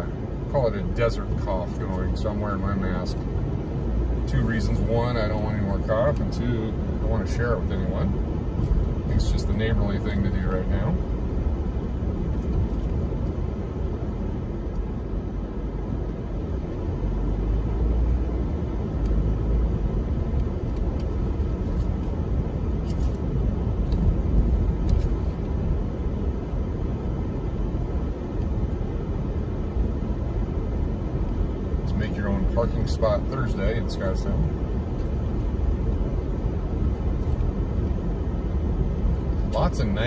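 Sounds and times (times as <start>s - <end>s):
car cabin road and engine rumble: 0.0s - 40.0s.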